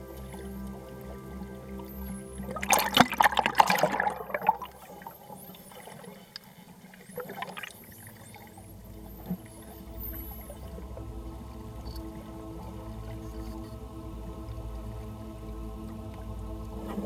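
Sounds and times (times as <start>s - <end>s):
soft background music: 0.0s - 6.0s, 8.0s - 17.0s
water splashing and bubbling: 0.0s - 17.0s.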